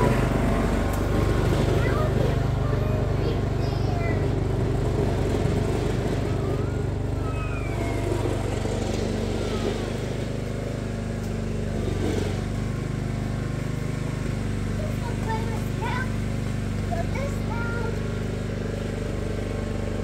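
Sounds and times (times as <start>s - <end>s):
lawn tractor engine running: 0.0s - 20.0s.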